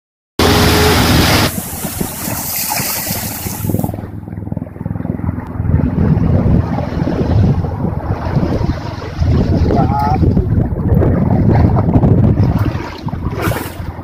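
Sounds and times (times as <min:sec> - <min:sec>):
rough sea rushing: 0:00.4 - 0:14.0
wind blasting across microphone: 0:00.4 - 0:14.0
yacht wake: 0:00.4 - 0:14.0.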